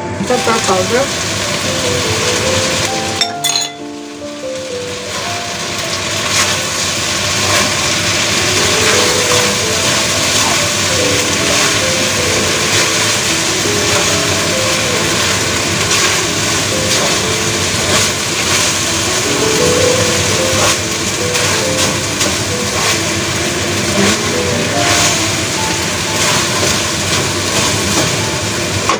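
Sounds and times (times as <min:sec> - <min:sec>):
simple melody: 0:00.0 - 0:28.9
food sizzling in a wok: 0:00.1 - 0:28.9.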